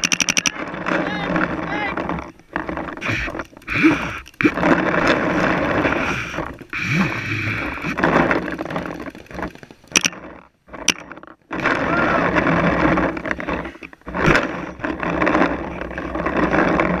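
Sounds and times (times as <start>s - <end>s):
rustling and scraping handling noise: 0.0s - 17.0s.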